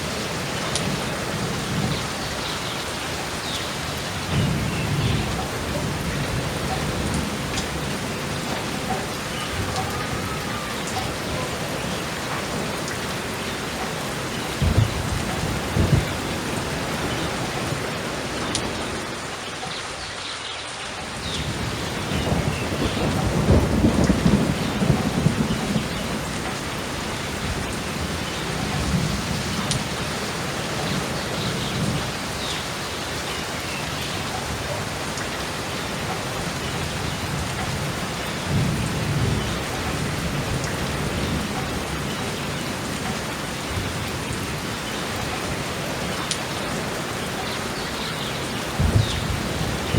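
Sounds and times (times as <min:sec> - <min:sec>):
rolling thunder: 0:00.0 - 0:19.6, 0:21.2 - 0:32.8, 0:34.1 - 0:49.9
heavy rain: 0:00.0 - 0:49.9.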